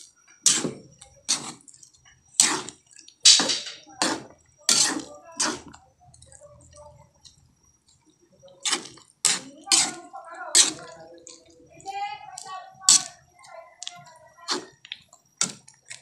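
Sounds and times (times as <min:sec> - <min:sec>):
coconut milk simmering: 0:00.0 - 0:16.0
metal spoon stirring in a pan: 0:00.4 - 0:16.0.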